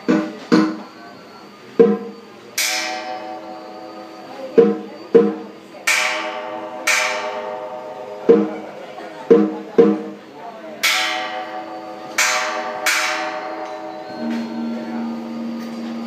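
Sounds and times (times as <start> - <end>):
small brass gong ringing: 1.8 - 10.2, 10.8 - 16.0
bright crashing metal strikes: 1.8 - 16.0.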